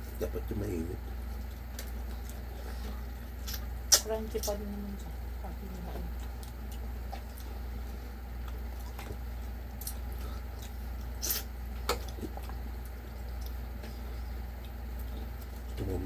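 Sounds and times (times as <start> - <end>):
crunchy chewing: 0.0 - 16.0
steady low hum: 0.0 - 16.0.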